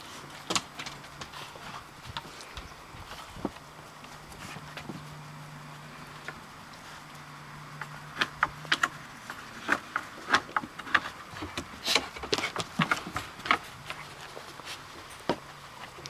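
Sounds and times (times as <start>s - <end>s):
dog claws on wooden deck: 0.0s - 5.3s, 5.9s - 16.0s
low steady hum: 0.0s - 16.0s.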